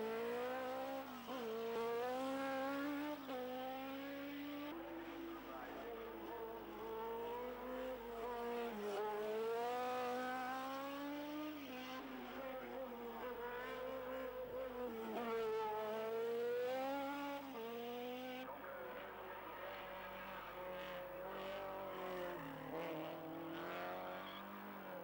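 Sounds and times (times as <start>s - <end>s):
racing car engine revving: 0.0s - 25.0s.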